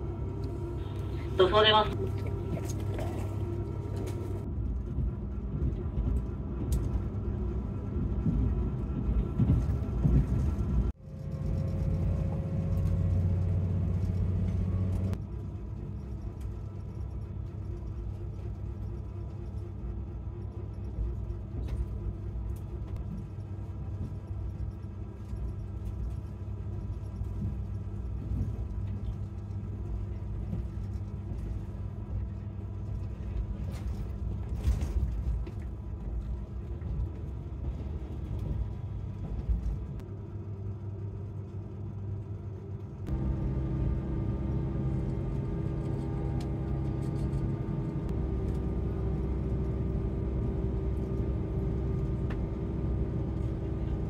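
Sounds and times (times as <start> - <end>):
diesel train rumbling: 0.0 - 54.0.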